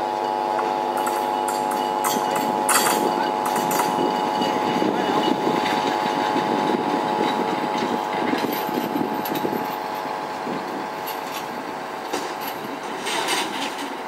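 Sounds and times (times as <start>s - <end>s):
rail vehicle engine running: 0.0s - 14.0s.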